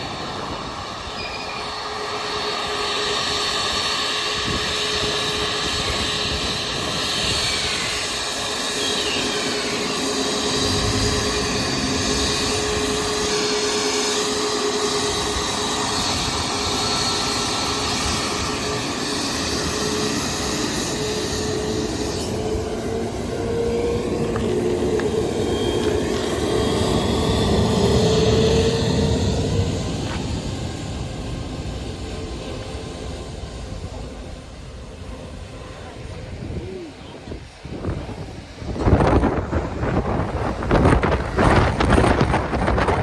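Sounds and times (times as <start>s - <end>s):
jet engines roaring with whine: 0.0s - 43.0s.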